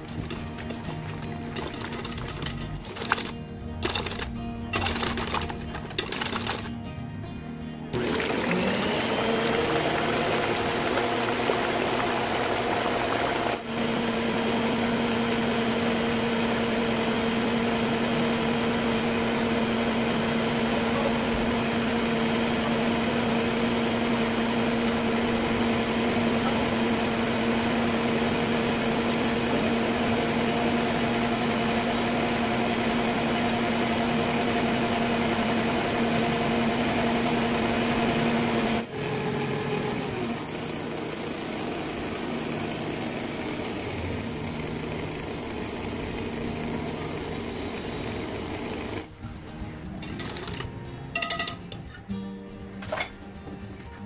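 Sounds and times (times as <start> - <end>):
stand mixer motor hum: 0.0 - 3.3, 7.9 - 49.1.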